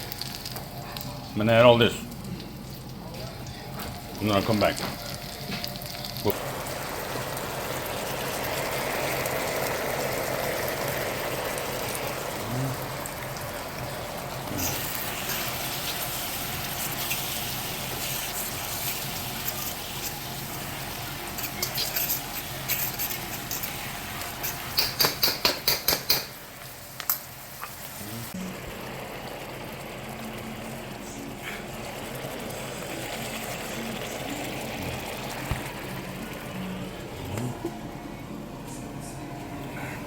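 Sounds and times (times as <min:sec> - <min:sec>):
sauce sizzling in a frying pan: 0:00.0 - 0:03.2, 0:04.0 - 0:36.6.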